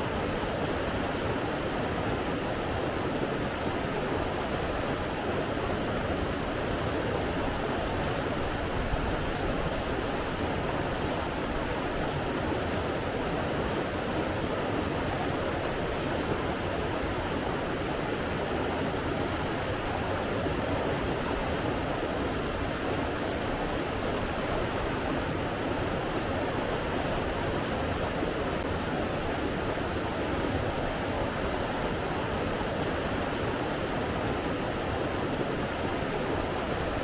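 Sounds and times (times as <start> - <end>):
flowing water rushing: 0.0 - 37.0.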